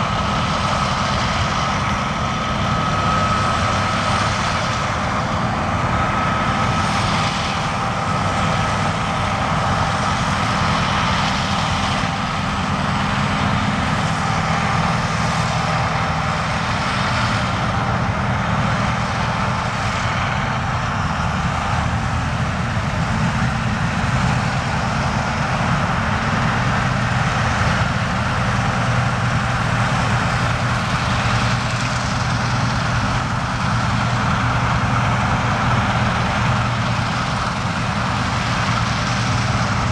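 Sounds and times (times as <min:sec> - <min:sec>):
diesel farm machinery running: 0:00.0 - 0:39.9
steady high whine: 0:00.0 - 0:39.9.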